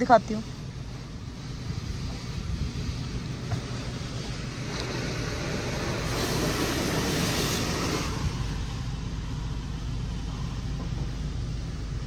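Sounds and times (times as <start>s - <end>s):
car wash spraying water: 0.0s - 12.0s
low hum: 0.0s - 12.0s.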